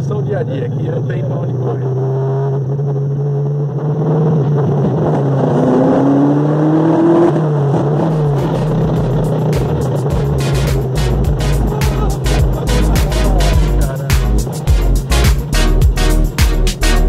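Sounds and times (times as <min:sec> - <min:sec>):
car engine drone accelerating: 0:00.0 - 0:17.0.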